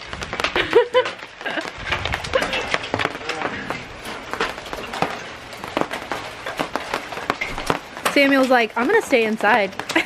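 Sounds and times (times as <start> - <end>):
hail on a metal awning: 0.0 - 10.0.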